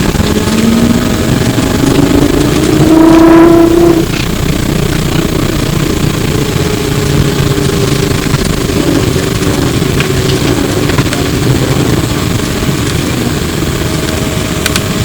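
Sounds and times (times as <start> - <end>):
bus rumbling: 0.0 - 15.0
electric motor whining: 0.0 - 15.0.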